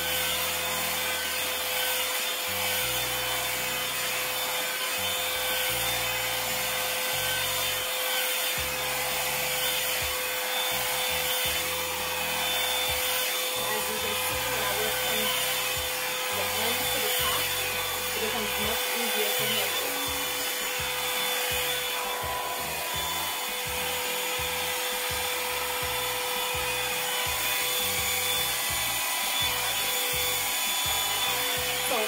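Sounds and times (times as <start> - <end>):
hair dryer brush blowing: 0.0 - 32.0.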